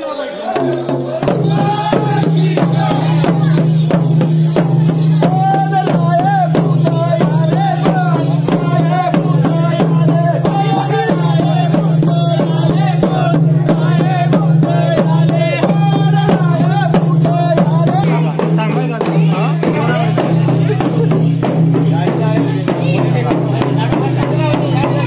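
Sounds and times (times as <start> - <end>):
fast hand drumming: 0.6 - 25.0.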